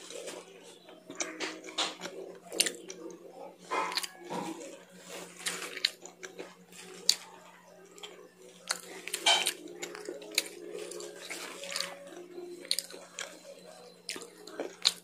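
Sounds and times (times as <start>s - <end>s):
chewing crunchy leafy greens: 0.0s - 15.0s.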